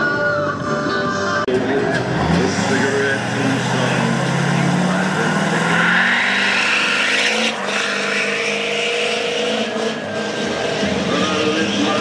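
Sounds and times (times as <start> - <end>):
pickup engine revving: 1.5 - 12.0.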